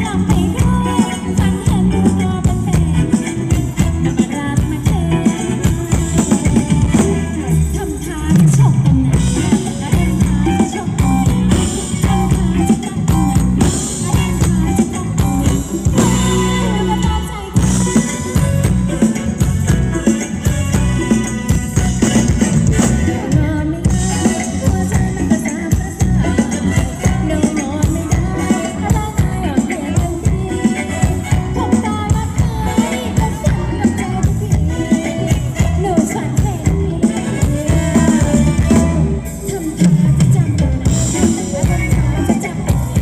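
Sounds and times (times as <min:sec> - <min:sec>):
drum kit beat: 0:00.0 - 0:43.0
live band dance music: 0:00.0 - 0:43.0
person singing: 0:00.0 - 0:43.0.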